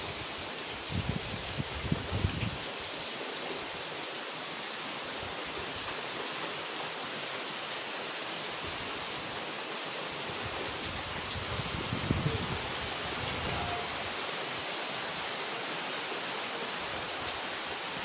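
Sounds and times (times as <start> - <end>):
rain falling on foliage: 0.0 - 18.0.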